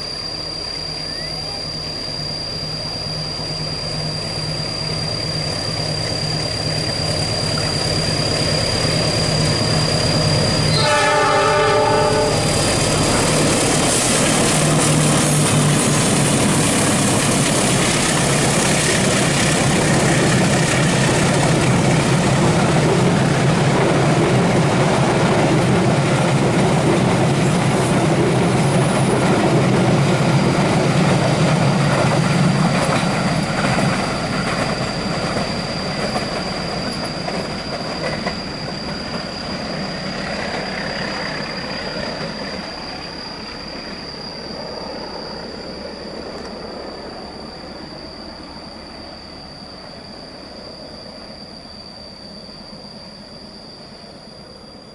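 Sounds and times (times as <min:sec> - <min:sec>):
high-pitched wheel whine: 0:00.0 - 0:54.9
train rumbling and clattering: 0:04.8 - 0:51.5.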